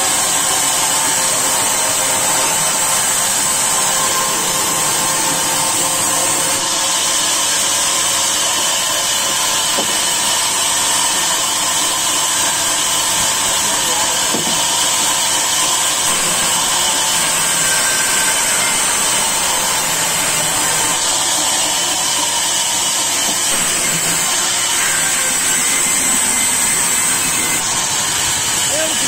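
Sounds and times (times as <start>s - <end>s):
sawmill saw whining: 0.0s - 29.0s.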